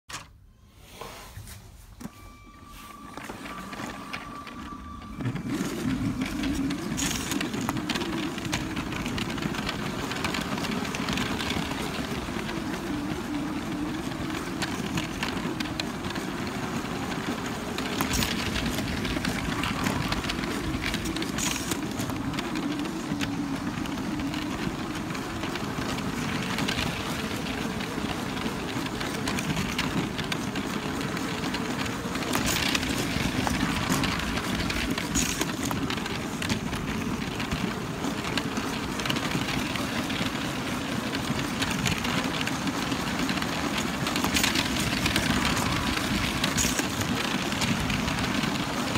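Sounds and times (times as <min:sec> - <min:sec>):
toy train motor whine: 0:02.3 - 0:48.9
wheels rattling on track: 0:02.9 - 0:48.9.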